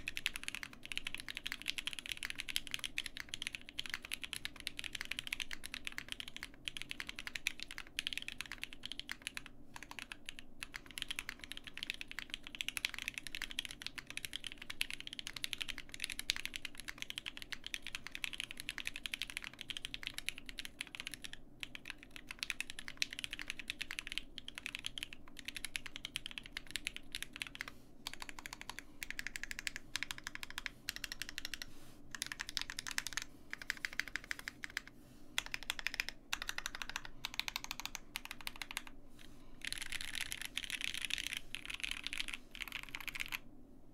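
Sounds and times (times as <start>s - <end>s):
mechanical keyboard typing: 0.0s - 38.9s, 39.6s - 43.4s.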